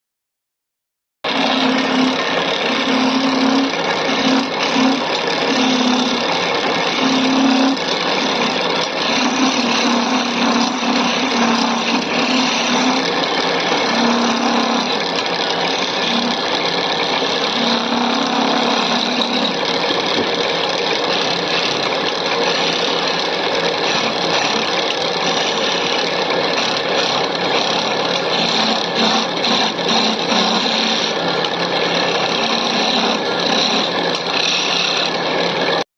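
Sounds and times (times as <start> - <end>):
turning tool cutting wood: 1.2 - 35.9
wood lathe running: 1.3 - 35.9.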